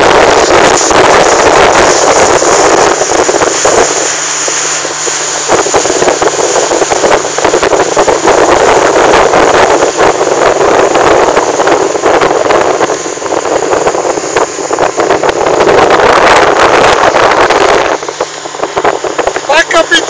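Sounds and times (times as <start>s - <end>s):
outboard engine running: 0.0s - 20.0s
rush of water: 0.0s - 20.0s
wind buffeting microphone: 0.0s - 20.0s.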